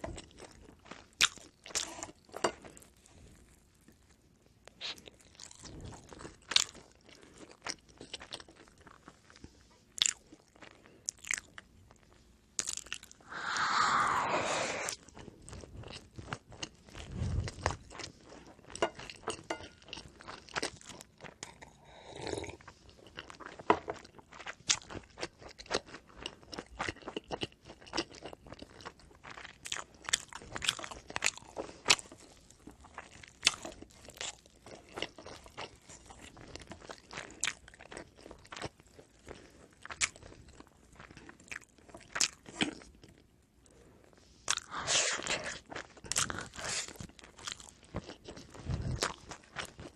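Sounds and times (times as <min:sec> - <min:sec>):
crunchy bread chewing: 0:00.1 - 0:13.2, 0:15.3 - 0:49.9.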